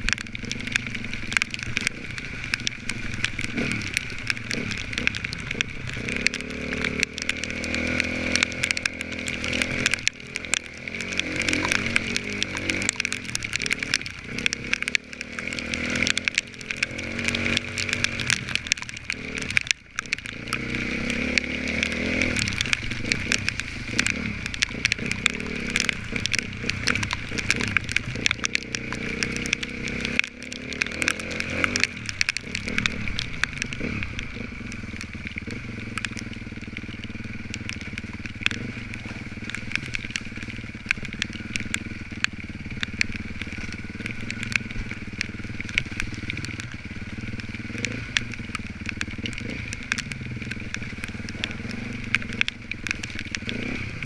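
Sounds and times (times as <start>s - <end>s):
motorcycle engine revving: 0.0s - 54.0s
small clicks and knocks: 0.0s - 54.0s.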